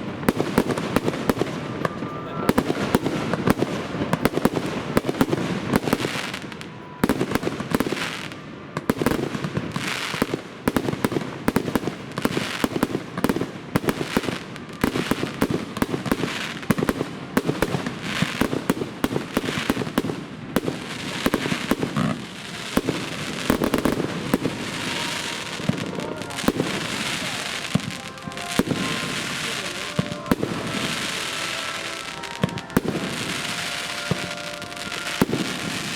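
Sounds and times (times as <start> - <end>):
fireworks bangs and crackles: 0.0 - 35.9.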